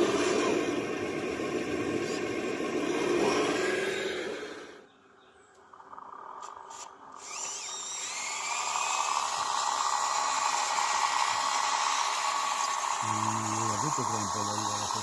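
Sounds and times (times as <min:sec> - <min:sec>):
earthmoving machinery whining: 0:00.0 - 0:04.9, 0:05.6 - 0:15.0.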